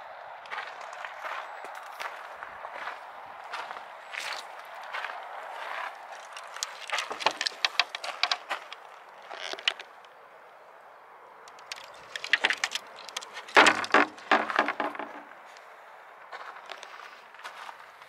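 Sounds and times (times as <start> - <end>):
footsteps crunching on gravel: 0.5 - 10.0, 11.5 - 15.7, 16.3 - 18.0.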